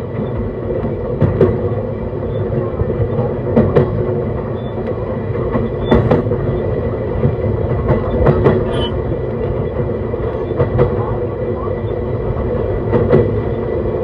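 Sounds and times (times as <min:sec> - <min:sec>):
wheels clicking over rail joints: 0:00.0 - 0:11.3
train hum: 0:00.0 - 0:14.0
train wheels rumbling on rail: 0:00.0 - 0:14.0.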